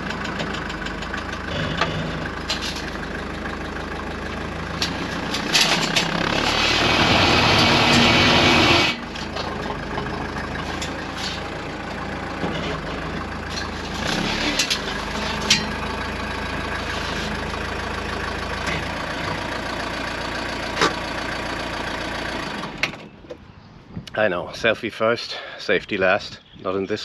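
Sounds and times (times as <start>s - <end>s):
diesel engine idling: 0.0s - 23.6s.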